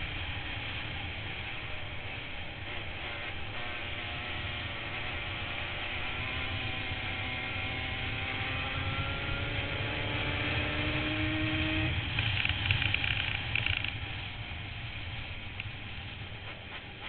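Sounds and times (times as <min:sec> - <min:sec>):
quad engines running: 0:00.0 - 0:17.0.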